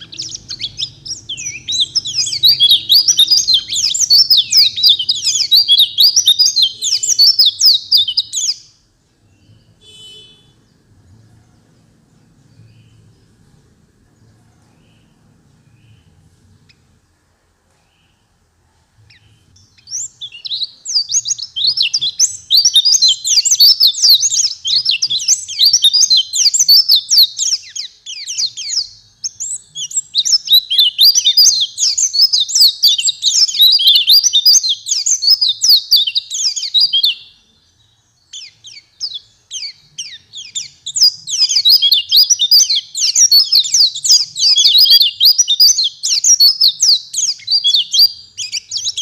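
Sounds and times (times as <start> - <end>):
white-eye twittering song: 0.0 - 10.9, 19.1 - 49.0.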